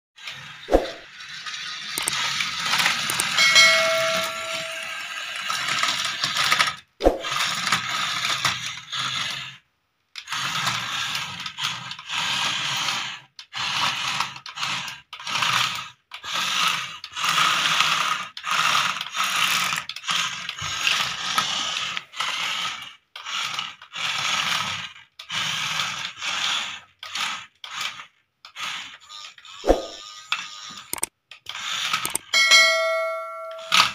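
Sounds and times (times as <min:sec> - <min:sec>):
toy motor whirring and grinding: 0:00.2 - 0:33.9.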